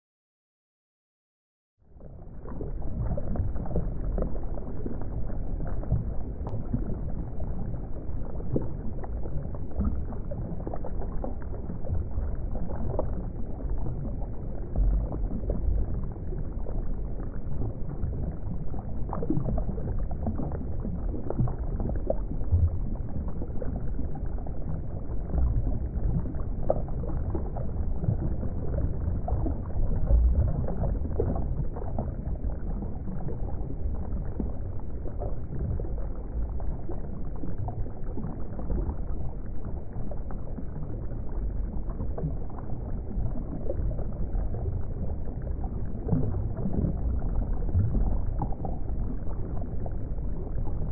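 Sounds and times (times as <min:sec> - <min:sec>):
low rumble of moving water: 0:01.8 - 0:50.9.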